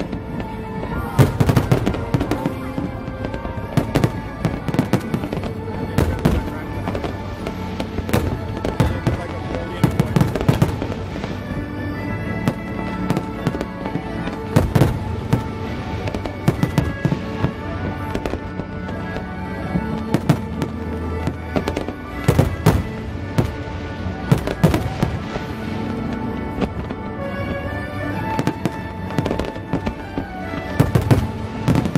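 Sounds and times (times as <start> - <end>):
fireworks bangs and crackles: 0.0 - 31.9
music playing: 0.0 - 31.9.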